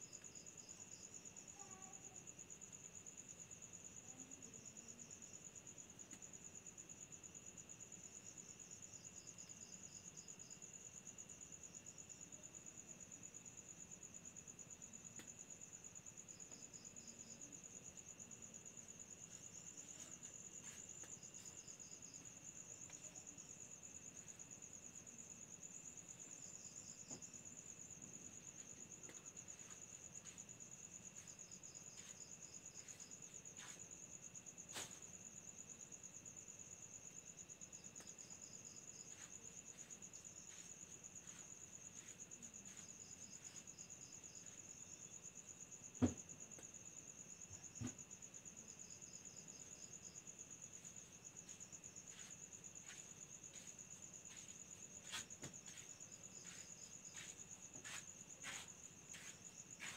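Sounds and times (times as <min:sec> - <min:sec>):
crickets trilling: 0:06.6 - 0:59.9.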